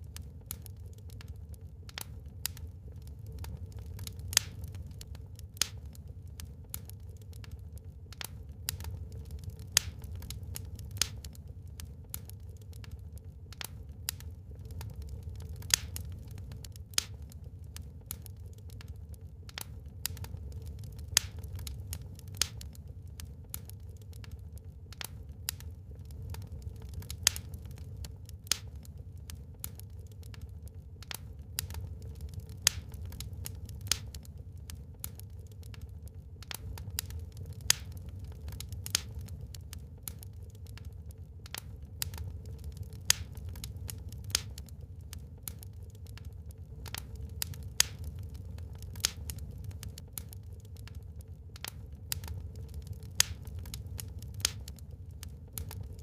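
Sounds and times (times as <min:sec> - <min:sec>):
burning logs crackling and popping: 0:00.0 - 0:56.0
low rumble of fire: 0:00.0 - 0:56.0.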